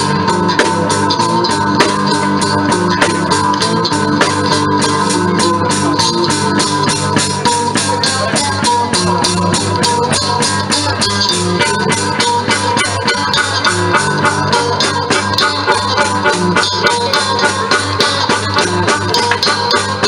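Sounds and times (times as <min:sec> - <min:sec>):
drums beating: 0:00.0 - 0:20.0
live blues band playing: 0:00.0 - 0:20.0.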